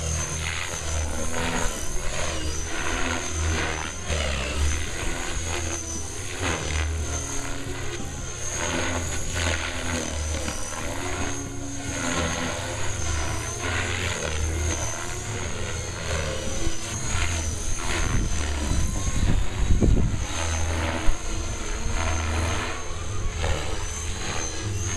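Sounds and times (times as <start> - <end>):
high whine: 0.0 - 24.9
rc helicopter rotor whooshing: 0.0 - 24.9.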